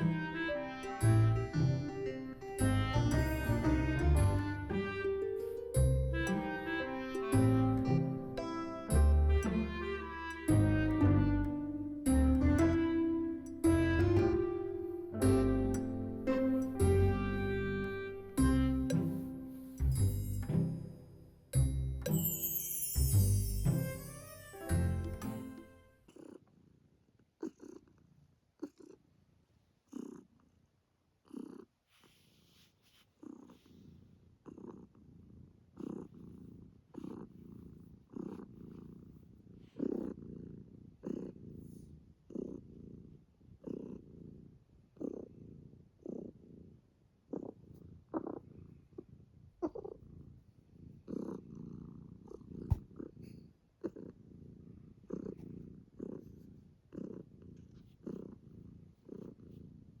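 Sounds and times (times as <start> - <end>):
cat purring: 7.4 - 21.2, 25.4 - 60.0.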